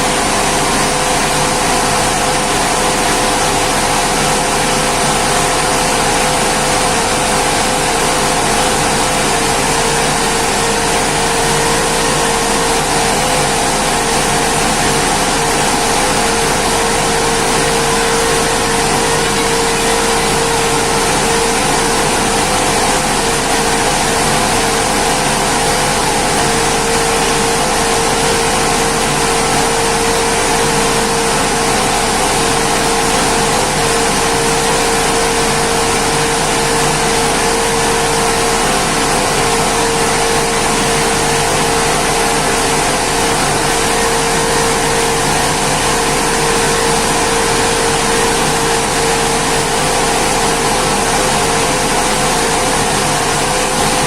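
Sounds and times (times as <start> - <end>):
rice milling machine whirring: 0.0 - 54.0.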